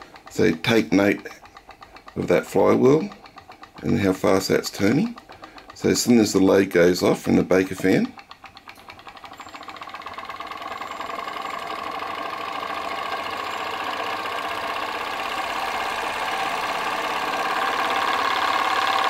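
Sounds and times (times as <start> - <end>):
stirling engine mechanical ticking: 0.0 - 19.0.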